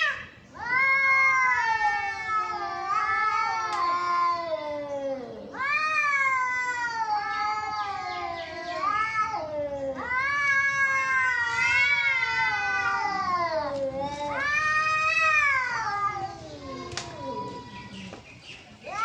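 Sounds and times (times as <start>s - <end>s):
cats yowling: 0.0s - 18.2s.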